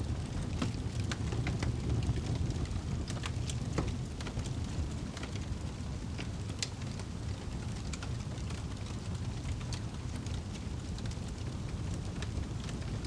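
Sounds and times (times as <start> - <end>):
fire crackling and popping: 0.0 - 13.0
low steady rumble of fire: 0.0 - 13.0.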